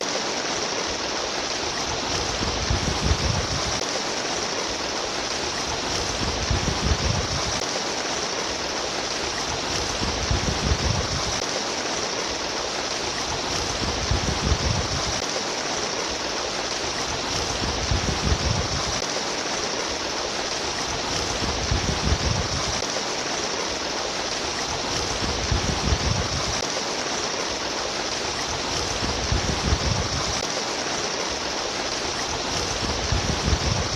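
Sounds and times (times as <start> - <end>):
water streaming and splashing: 0.0 - 33.9.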